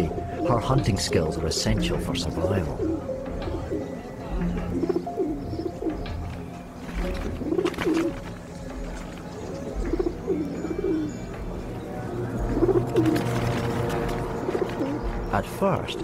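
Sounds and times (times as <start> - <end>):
pigeons cooing: 0.0 - 16.0
soft background music: 0.0 - 16.0.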